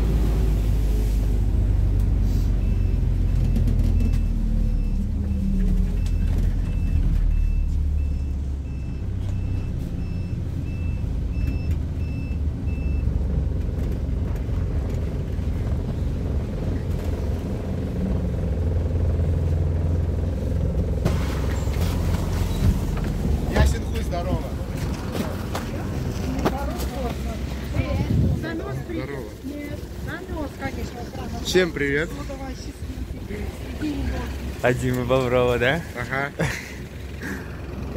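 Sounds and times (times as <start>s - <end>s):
bus engine rumbling: 0.0s - 37.9s.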